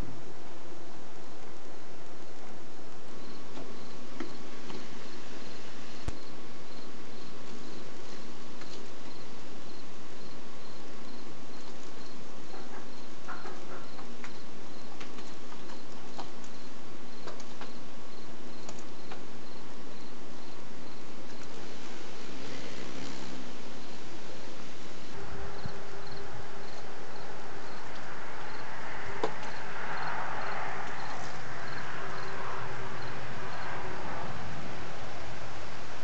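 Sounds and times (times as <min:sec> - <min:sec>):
faint high insect chirp: 0:00.0 - 0:36.0
hiss of insects: 0:00.0 - 0:36.0.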